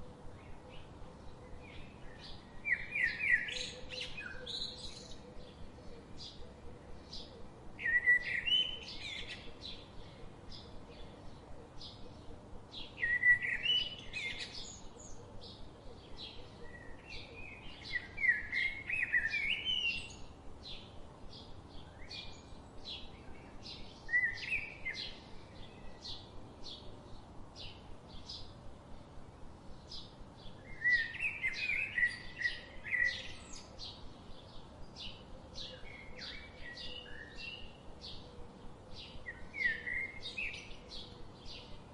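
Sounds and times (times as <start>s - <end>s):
soft background hiss: 0.0s - 41.9s.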